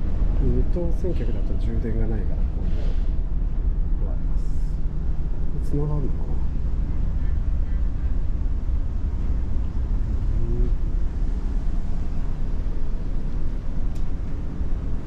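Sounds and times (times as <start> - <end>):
ship engines rumbling: 0.0 - 15.0.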